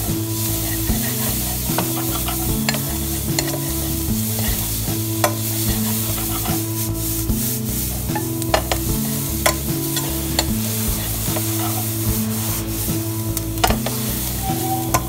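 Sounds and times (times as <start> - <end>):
spatula stirring and scraping pan: 0.0 - 15.0
vegetables sizzling in hot oil: 0.0 - 15.0.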